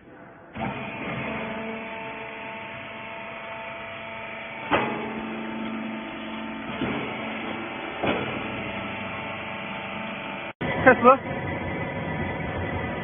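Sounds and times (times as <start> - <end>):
baler motor and pump hum: 0.5 - 13.0.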